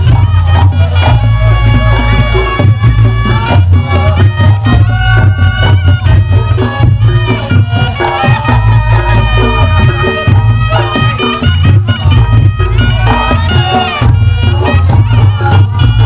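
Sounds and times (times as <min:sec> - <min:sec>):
fast drum strokes: 0:00.0 - 0:16.0
heavy low bass: 0:00.0 - 0:16.0
shrill double-reed trumpet melody: 0:00.0 - 0:16.0.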